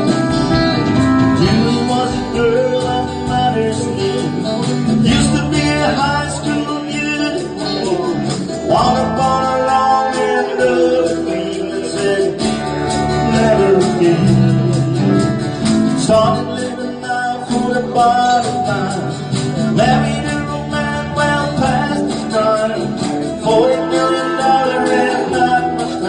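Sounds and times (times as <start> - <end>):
bending lead guitar melody: 0.0 - 26.0
strummed and plucked guitars: 0.0 - 26.0.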